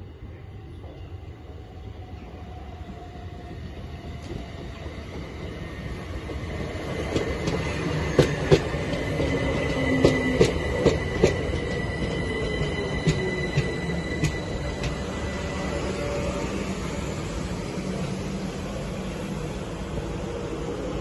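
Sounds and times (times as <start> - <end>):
passenger train running past: 0.0 - 21.0.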